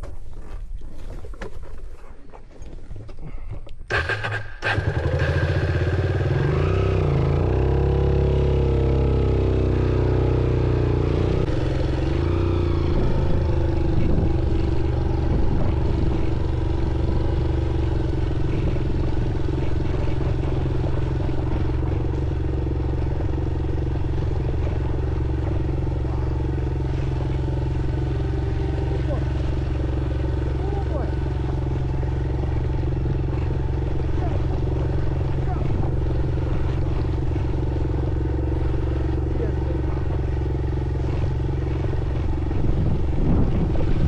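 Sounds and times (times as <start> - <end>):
motorcycle engine running: 3.9 - 44.0.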